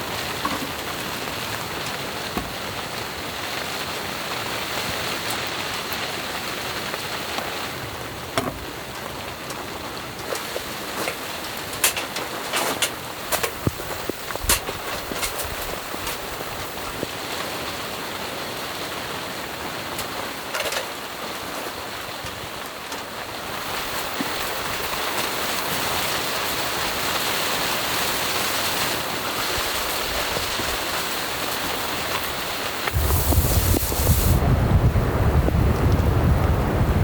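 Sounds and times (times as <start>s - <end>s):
wind and driving rain: 0.0s - 37.0s.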